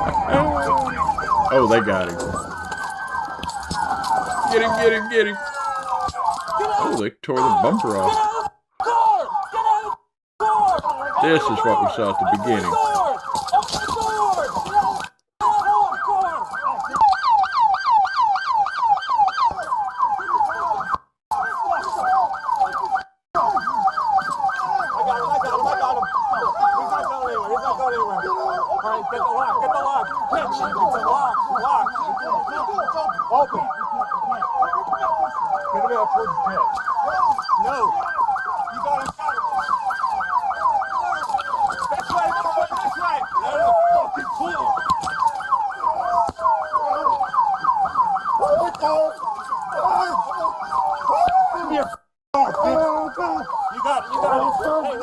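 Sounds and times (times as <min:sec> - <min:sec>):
police sirens yelping and wailing: 0:00.0 - 0:55.0.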